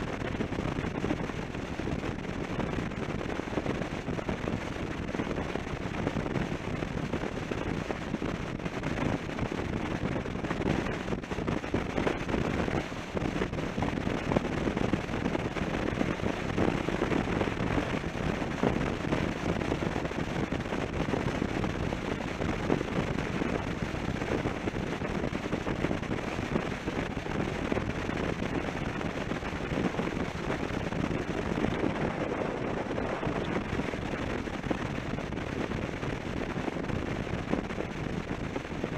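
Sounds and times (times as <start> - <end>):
motorcycle road and engine noise: 0.0 - 38.9
wind buffeting microphone: 0.0 - 38.9.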